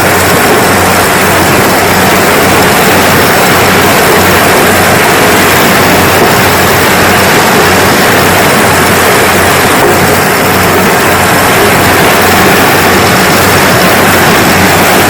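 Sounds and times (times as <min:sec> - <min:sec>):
combine harvester engine drone: 0:00.0 - 0:15.0
constant rushing noise: 0:00.0 - 0:15.0.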